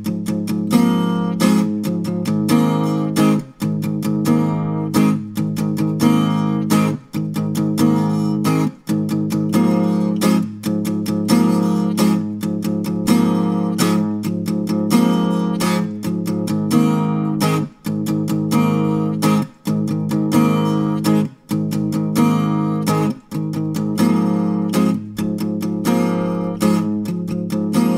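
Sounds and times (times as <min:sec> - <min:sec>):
guitar strumming chords: 0:00.0 - 0:27.9.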